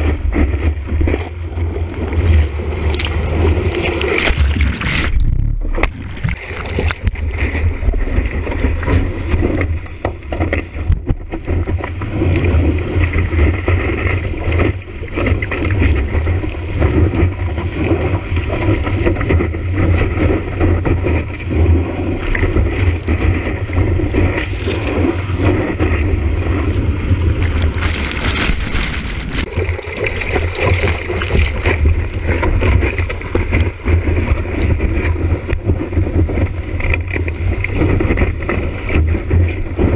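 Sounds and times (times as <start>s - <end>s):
whitewater rushing and splashing: 0.0s - 10.8s, 11.4s - 39.9s
heavy low rumble: 0.0s - 39.9s
wind buffeting microphone: 0.0s - 39.9s.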